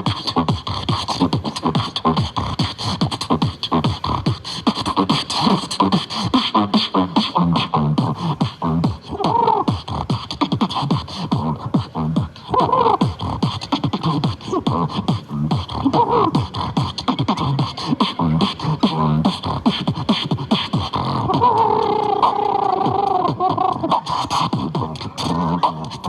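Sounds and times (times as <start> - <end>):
vocal beatboxing: 0.0 - 26.0.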